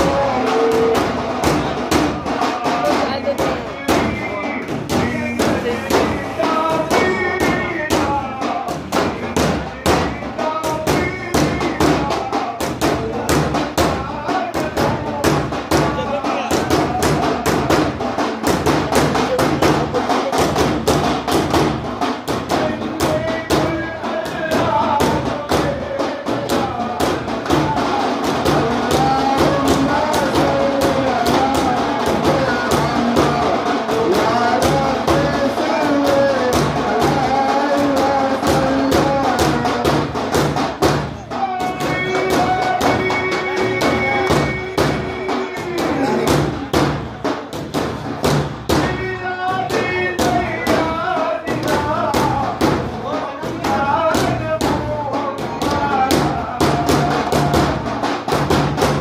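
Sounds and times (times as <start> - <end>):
devotional chant singing: 0.0 - 59.0
frame drums beaten fast: 0.0 - 59.0.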